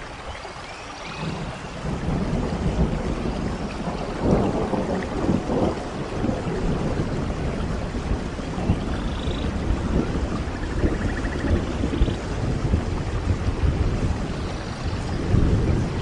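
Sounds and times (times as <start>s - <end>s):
steady rain: 0.0s - 16.0s
rolling thunder rumble: 1.1s - 16.0s.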